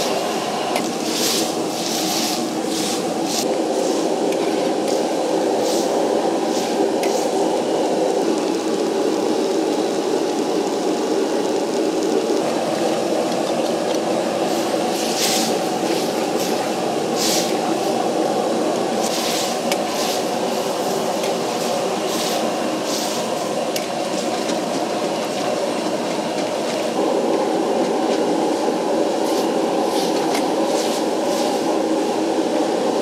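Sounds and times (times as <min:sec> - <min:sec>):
sauce bubbling in a wok: 0:00.0 - 0:31.8
gas burner roaring: 0:00.0 - 0:33.0.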